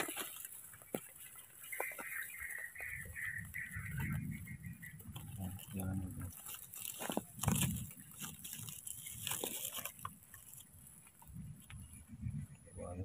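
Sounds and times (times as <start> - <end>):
dry leaves rustling and crackling: 0.0 - 12.1.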